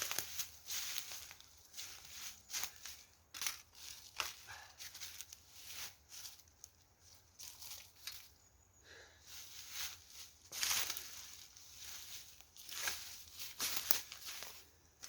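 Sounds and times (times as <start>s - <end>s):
dry leaves and sticks rustling: 0.0s - 15.0s.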